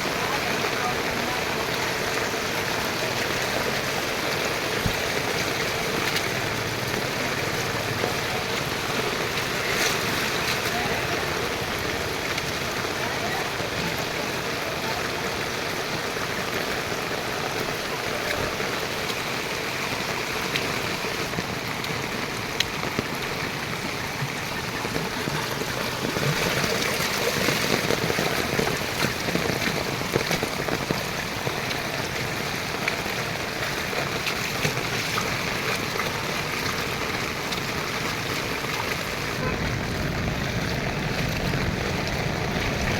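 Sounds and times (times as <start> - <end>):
rainwater rushing: 0.0 - 42.9
water drips ticking: 0.0 - 42.9.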